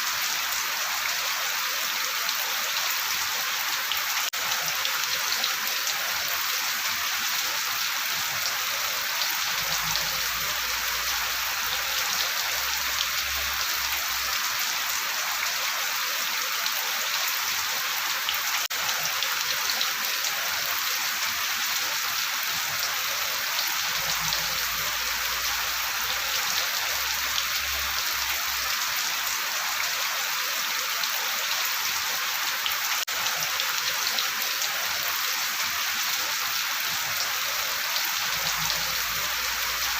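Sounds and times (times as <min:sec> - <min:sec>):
rain pattering: 0:00.1 - 0:15.6, 0:16.5 - 0:39.9.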